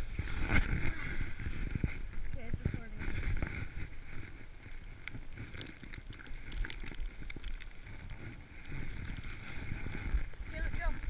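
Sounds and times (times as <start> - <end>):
low rumble of movement over snow: 0.0 - 11.0
snow crackles and clicks: 0.0 - 11.0
wind noise on microphone: 0.0 - 11.0.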